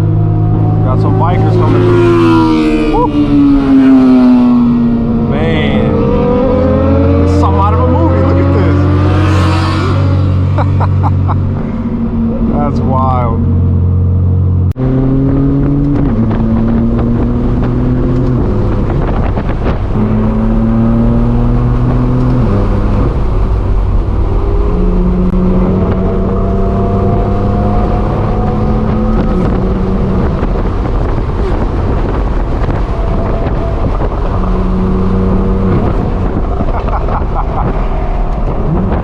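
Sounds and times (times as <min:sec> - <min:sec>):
car engine revving loudly: 0:00.0 - 0:39.0
wind and road noise: 0:00.0 - 0:39.0.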